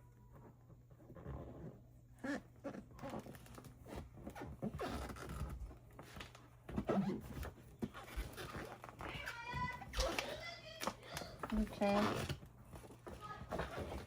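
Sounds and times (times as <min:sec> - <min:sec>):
laminate sheet peeling and crinkling: 0:00.0 - 0:14.0.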